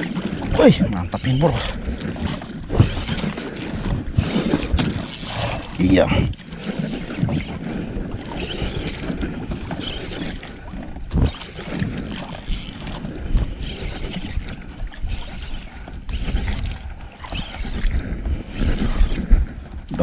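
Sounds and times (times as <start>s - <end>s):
water lapping against a canoe: 0.0s - 20.0s
wind buffeting the microphone: 0.0s - 20.0s.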